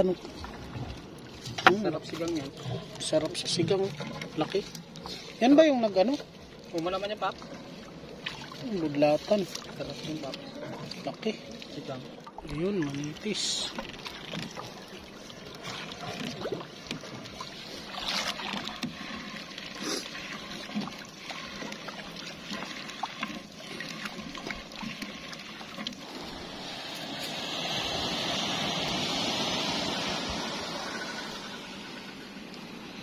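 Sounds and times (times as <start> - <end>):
water splashing and dripping: 0.0 - 33.0.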